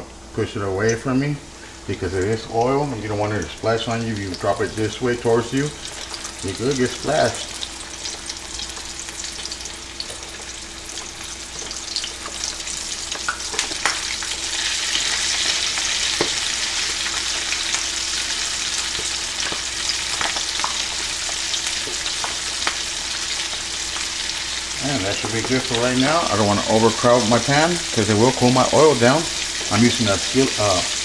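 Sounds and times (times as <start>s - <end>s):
chicken frying in hot oil: 0.0s - 31.0s
oil popping: 2.2s - 31.0s.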